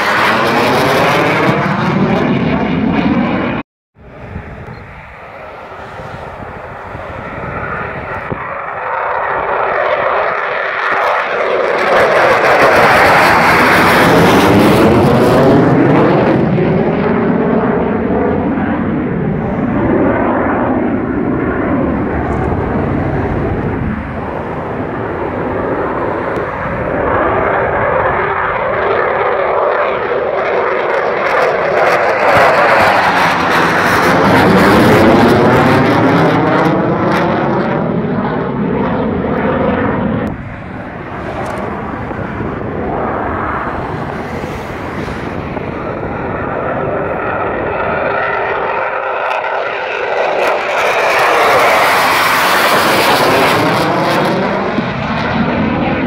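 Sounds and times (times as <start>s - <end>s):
fighter jet passing overhead: 0.0s - 56.0s.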